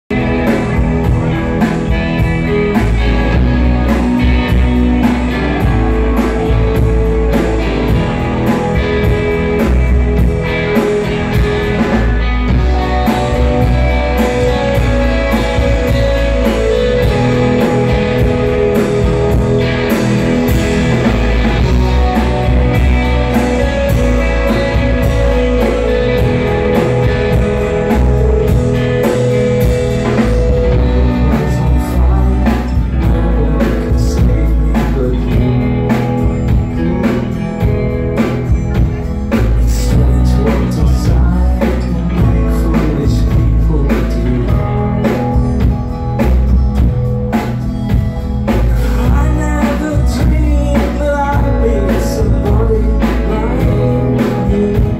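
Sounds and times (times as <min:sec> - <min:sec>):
drum kit beat: 0:00.1 - 0:54.9
electric guitar: 0:00.1 - 0:54.9.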